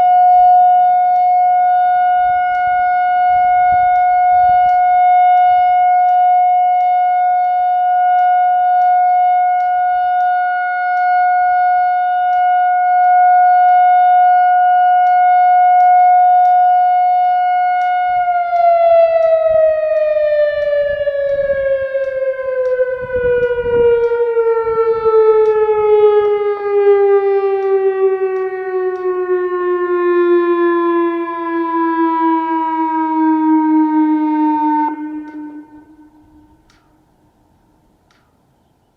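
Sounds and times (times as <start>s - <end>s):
warning siren winding down: 0.0s - 37.2s.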